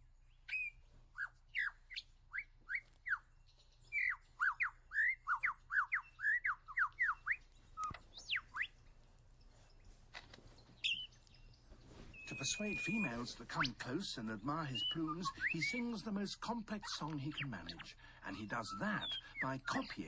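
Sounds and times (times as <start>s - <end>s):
lyrebird singing whistled notes: 0.2s - 8.8s, 10.8s - 20.0s.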